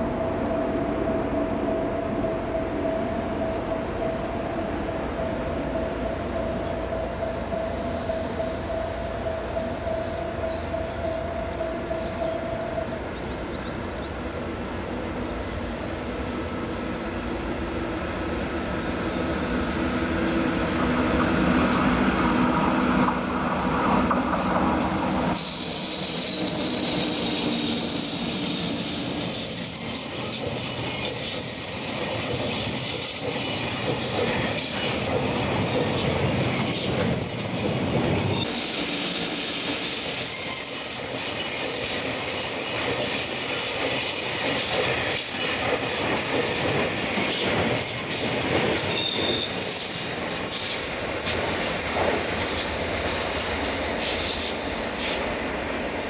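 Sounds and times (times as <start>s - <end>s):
freight train approaching: 0.0s - 56.0s
wheels squealing on rails: 0.3s - 56.0s.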